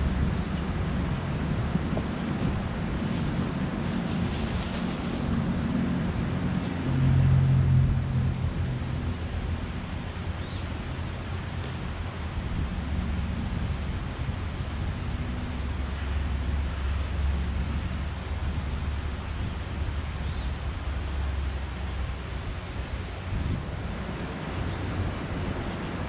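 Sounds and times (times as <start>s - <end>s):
traffic rumble on bridge overhead: 0.0s - 26.0s.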